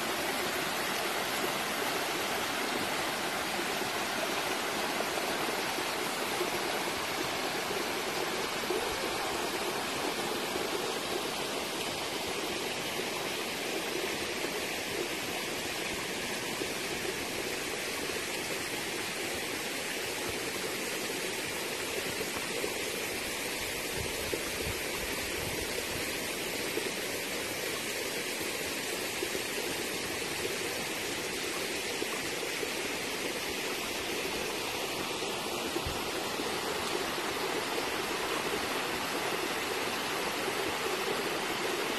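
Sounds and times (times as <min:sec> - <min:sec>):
waterfall rushing water: 0:00.0 - 0:41.9.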